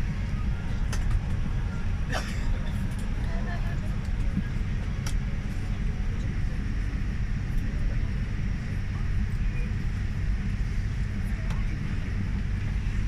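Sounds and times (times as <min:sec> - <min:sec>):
airplane cabin low rumble: 0:00.0 - 0:13.0
faint passenger chatter: 0:00.0 - 0:13.0.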